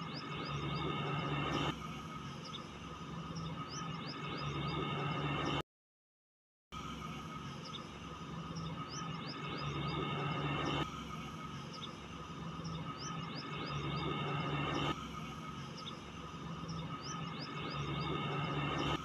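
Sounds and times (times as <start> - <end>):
small birds chirping: 0.0 - 1.6, 2.2 - 5.6, 7.3 - 19.0.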